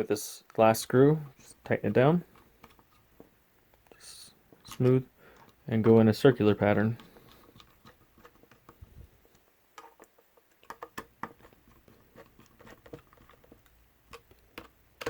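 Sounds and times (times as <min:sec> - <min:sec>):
plastic parts handling: 0:01.4 - 0:15.0.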